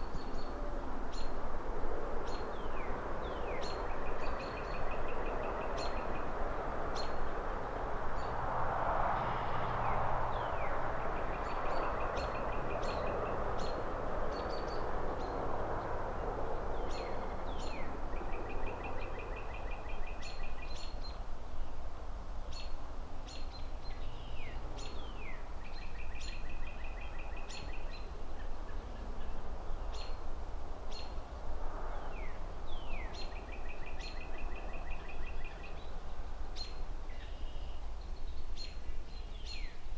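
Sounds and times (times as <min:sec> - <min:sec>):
low traffic rumble: 0:00.0 - 0:39.9.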